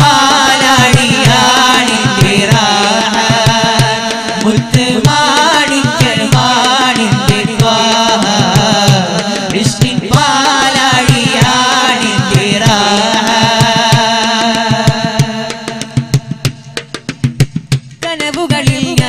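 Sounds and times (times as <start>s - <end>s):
men singing devotional song: 0.0s - 17.1s
steady drum beat: 0.0s - 19.0s.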